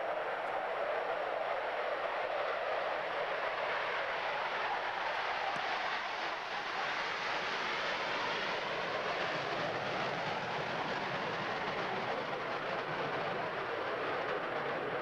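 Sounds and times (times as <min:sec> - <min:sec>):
locomotive running on rails: 0:00.0 - 0:15.0.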